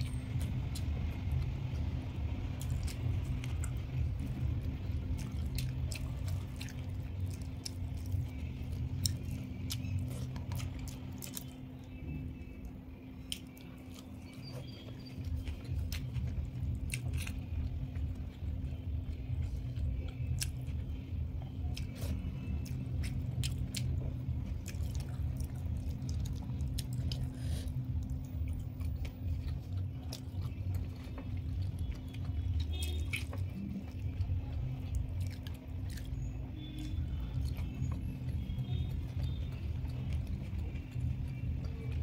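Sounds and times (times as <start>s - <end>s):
steady low hum: 0.0s - 42.0s
close chewing: 2.6s - 42.0s
eating clicks and crackles: 2.6s - 42.0s.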